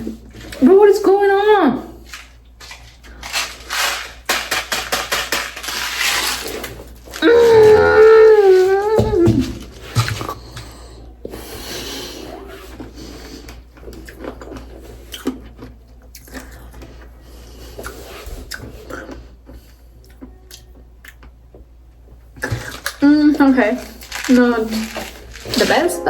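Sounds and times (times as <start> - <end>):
person chewing crunchy candy: 2.0 - 11.0, 11.9 - 21.6, 22.4 - 23.1, 23.7 - 26.0.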